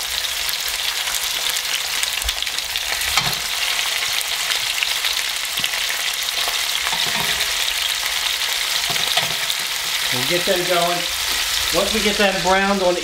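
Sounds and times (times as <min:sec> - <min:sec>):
meat sizzling in hot oil: 0:00.0 - 0:13.0.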